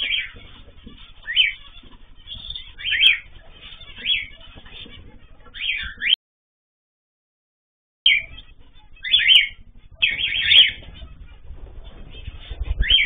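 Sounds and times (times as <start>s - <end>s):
cage bird chirping: 0.0s - 6.2s, 8.1s - 13.0s.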